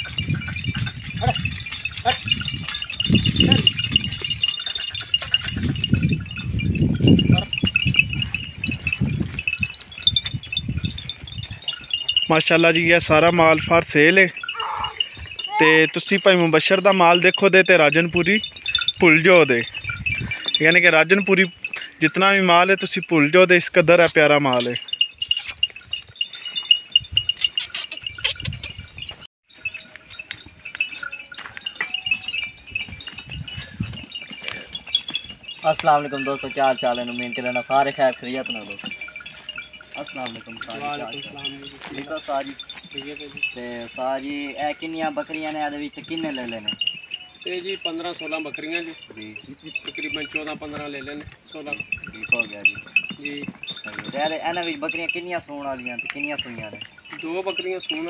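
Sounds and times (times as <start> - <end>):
wind buffeting microphone: 0.0 - 22.0, 24.8 - 58.0
goats moving about: 0.0 - 58.0
high tinkling chirp: 0.0 - 58.0
high-pitched insect drone: 0.0 - 58.0.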